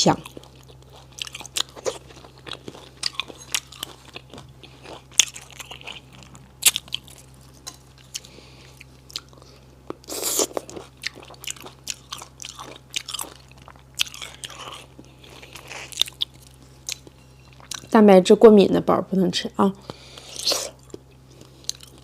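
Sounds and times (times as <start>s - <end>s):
chewing and crunching: 0.0s - 18.0s, 19.9s - 22.0s.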